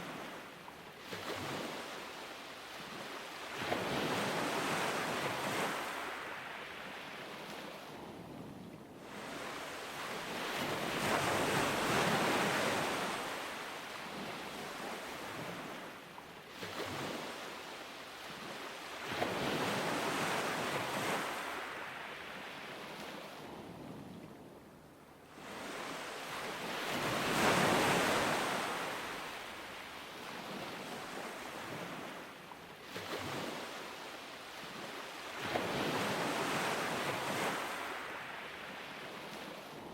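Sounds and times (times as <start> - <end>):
waves breaking on shore: 0.0 - 24.4, 25.2 - 39.9.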